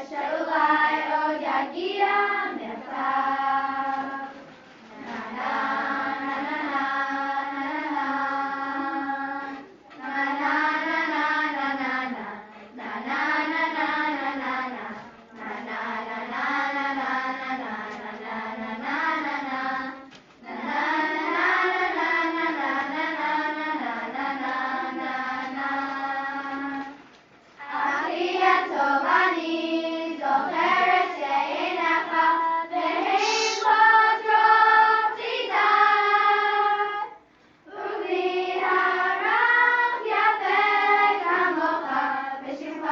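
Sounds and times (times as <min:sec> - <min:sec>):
girls choir singing: 0:00.0 - 0:42.9.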